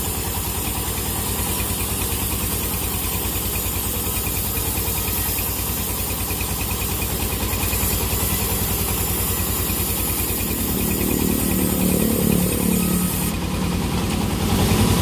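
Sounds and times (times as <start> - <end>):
sawmill engine pulsing: 0.0 - 15.0.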